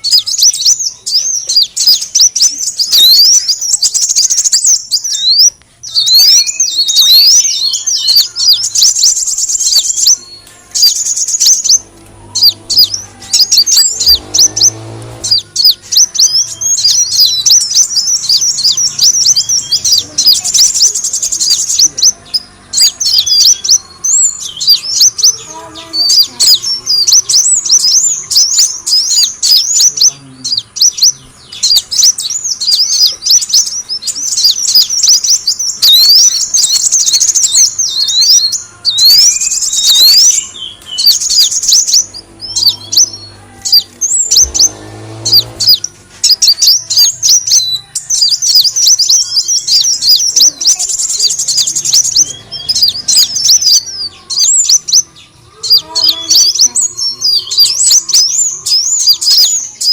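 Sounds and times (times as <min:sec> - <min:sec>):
sunbird chirps and trills: 0:00.0 - 0:59.9.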